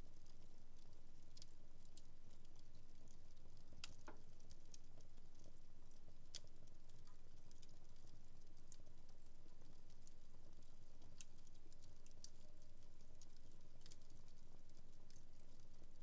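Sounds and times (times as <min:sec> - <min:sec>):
wood fire crackling: 0:00.2 - 0:16.0.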